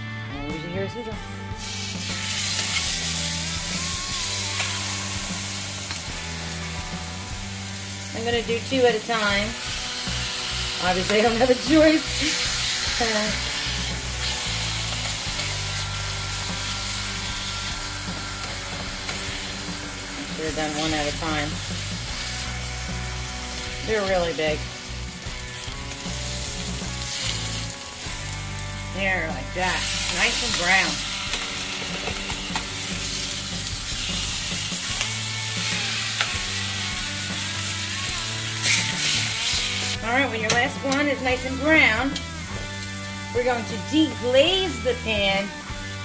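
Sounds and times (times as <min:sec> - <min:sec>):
metal tongs scraping skillet: 0:01.6 - 0:07.0, 0:07.8 - 0:24.8, 0:29.0 - 0:45.2
meat sizzling in oil: 0:01.6 - 0:46.0.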